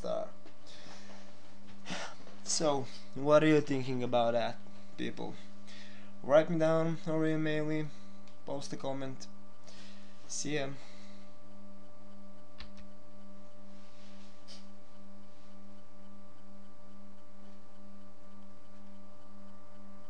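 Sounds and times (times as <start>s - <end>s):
electrical mains hum: 0.0s - 20.0s
faint high whine: 0.0s - 20.0s.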